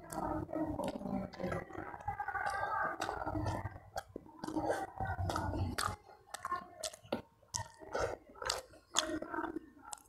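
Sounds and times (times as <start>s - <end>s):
person chewing with mouth clicks: 0.0s - 10.0s.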